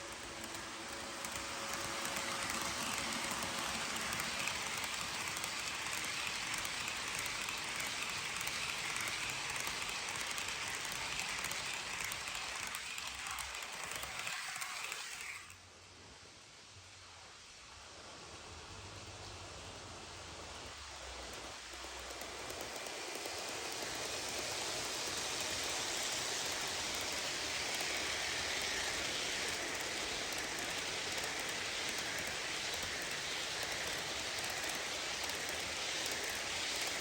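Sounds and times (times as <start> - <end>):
model train wheels hissing on track: 0.0 - 37.0.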